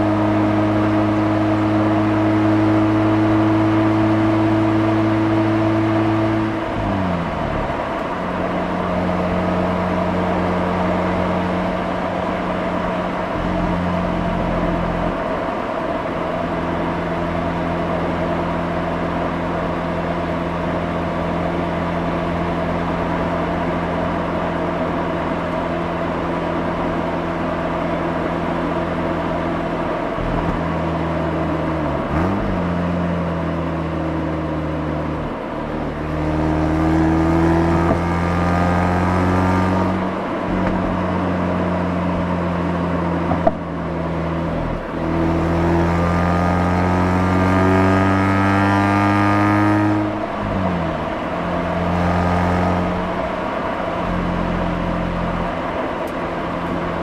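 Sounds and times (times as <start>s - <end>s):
rotary engine and exhaust cruising: 0.0s - 57.0s
tyre and road noise: 0.0s - 57.0s.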